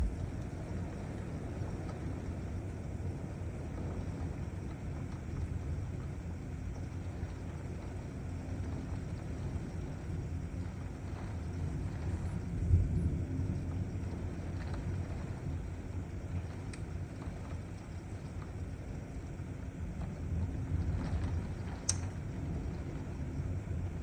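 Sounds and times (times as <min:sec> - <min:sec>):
low thunder rumbling: 0:00.0 - 0:24.0.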